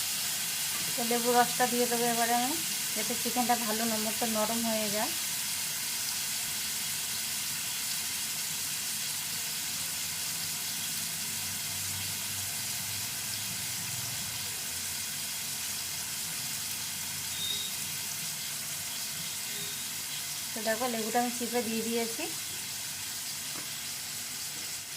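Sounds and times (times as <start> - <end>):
chicken sizzling in hot oil: 0.0 - 24.9.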